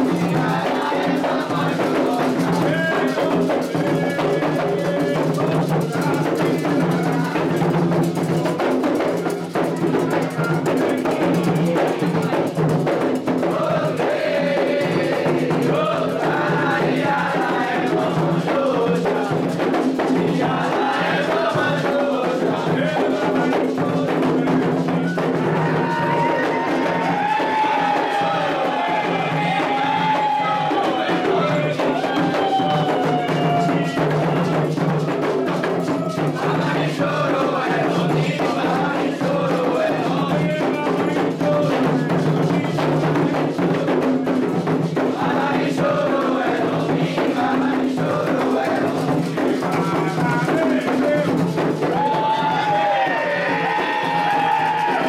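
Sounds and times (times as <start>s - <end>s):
hand drums and percussion: 0.0s - 55.0s
sung chanting: 0.0s - 55.0s.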